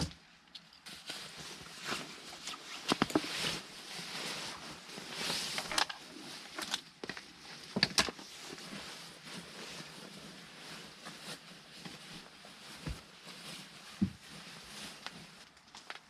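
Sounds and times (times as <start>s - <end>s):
rustling: 0.8s - 16.0s.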